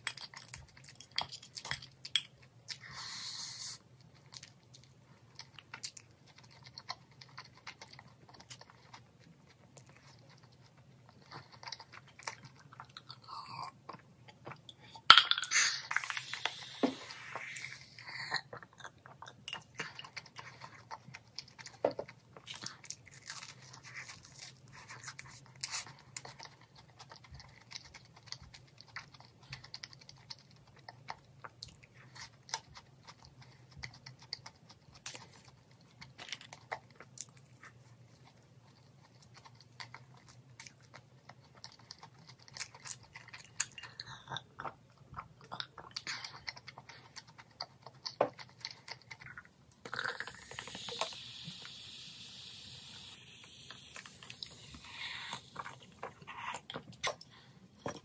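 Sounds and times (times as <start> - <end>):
chewing and crunching fried chicken: 0.0 - 58.0.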